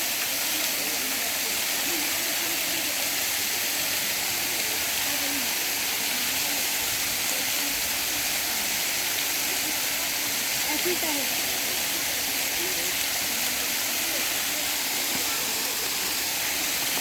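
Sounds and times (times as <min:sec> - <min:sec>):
faint distant voices: 0:00.0 - 0:17.0
steady rushing hiss: 0:00.0 - 0:17.0.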